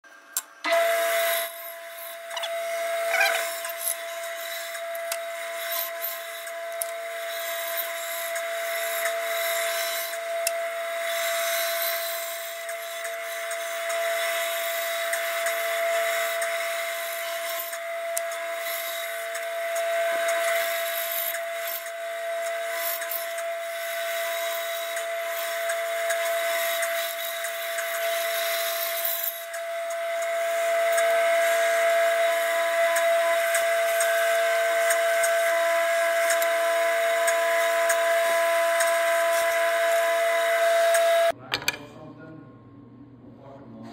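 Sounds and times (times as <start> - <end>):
bandsaw cutting wood: 0.7 - 41.4.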